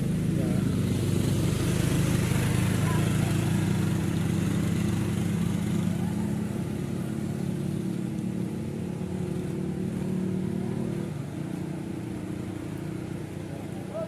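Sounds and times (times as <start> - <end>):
small motorcycle engine running: 0.0 - 13.7.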